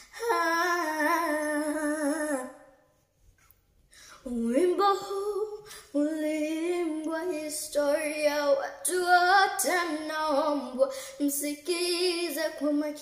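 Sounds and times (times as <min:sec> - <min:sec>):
child singing: 0:00.1 - 0:02.6, 0:04.3 - 0:13.0.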